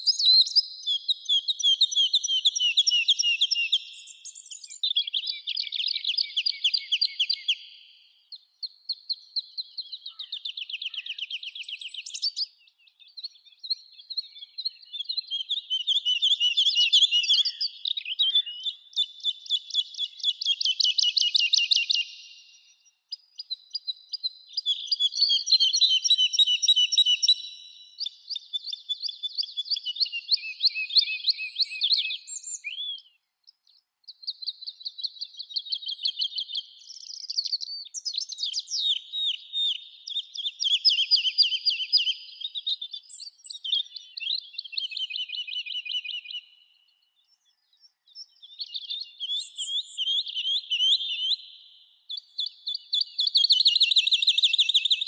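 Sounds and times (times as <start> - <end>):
songbirds singing trills: 0.0 - 55.0.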